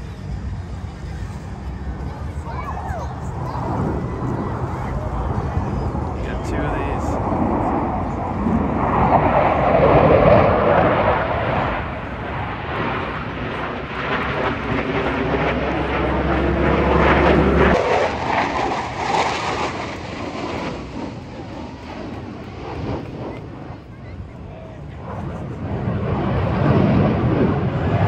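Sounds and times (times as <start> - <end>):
jets flying past: 0.0 - 28.0.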